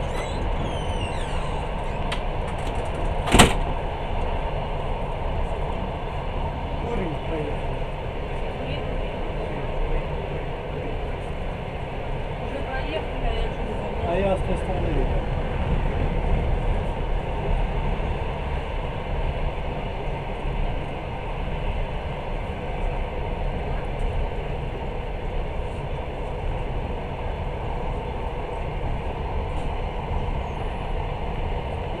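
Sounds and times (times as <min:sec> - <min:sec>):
train carriage running on track: 0:00.0 - 0:32.0.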